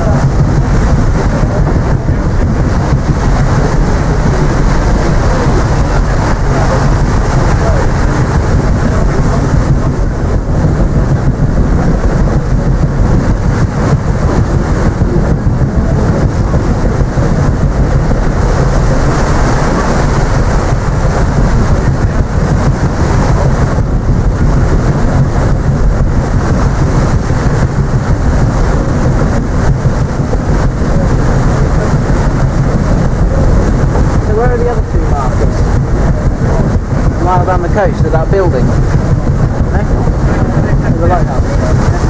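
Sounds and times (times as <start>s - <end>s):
paddle steamer running noise: 0.0s - 42.0s
wind on microphone: 0.0s - 42.0s.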